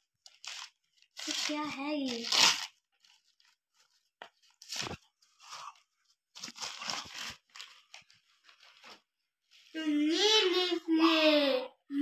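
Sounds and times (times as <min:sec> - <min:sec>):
newspaper crinkling and tearing: 0:00.0 - 0:09.6.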